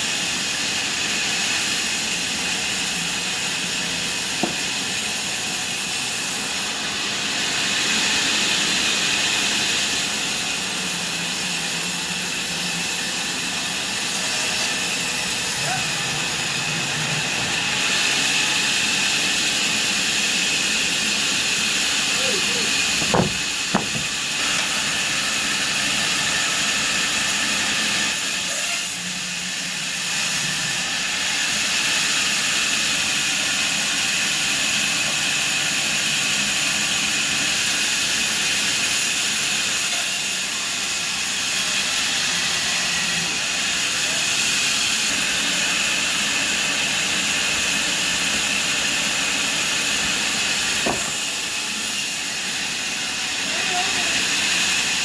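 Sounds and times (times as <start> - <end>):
sawmill saw hissing: 0.0 - 55.0.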